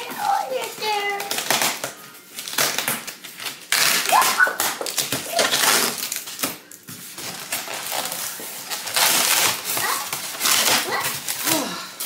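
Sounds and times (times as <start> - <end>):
plastic and cardboard crinkling: 0.0 - 12.0.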